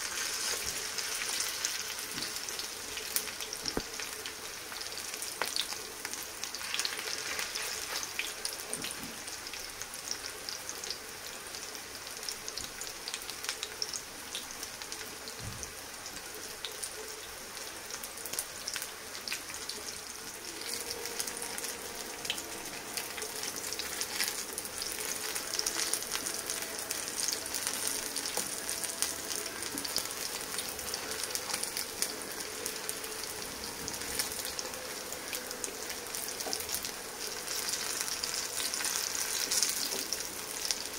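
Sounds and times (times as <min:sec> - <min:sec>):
patties sizzling in hot oil: 0:00.0 - 0:40.9.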